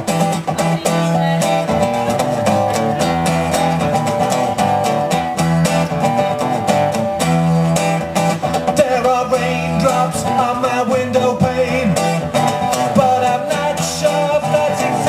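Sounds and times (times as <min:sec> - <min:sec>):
strummed guitar music: 0:00.0 - 0:15.0.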